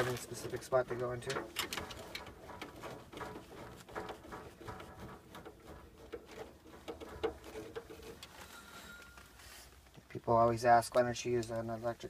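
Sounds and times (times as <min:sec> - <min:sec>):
faint metal clicks and scrapes: 0:00.0 - 0:10.2.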